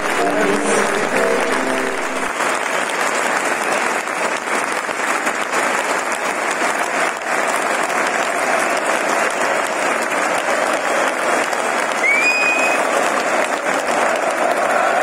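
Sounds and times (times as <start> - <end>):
stadium crowd applauding: 0.0 - 15.0.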